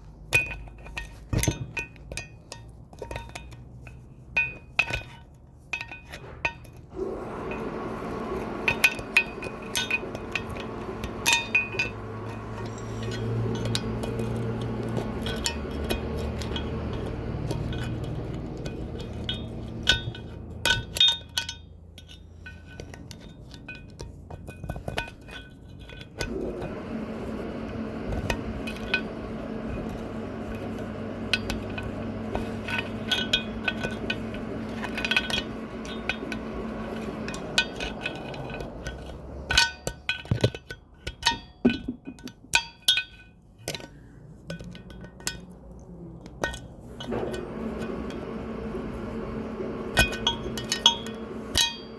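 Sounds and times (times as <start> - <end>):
metal tools clinking: 0.0 - 26.9, 27.8 - 51.9
steady low hum: 6.9 - 41.8, 42.9 - 51.9.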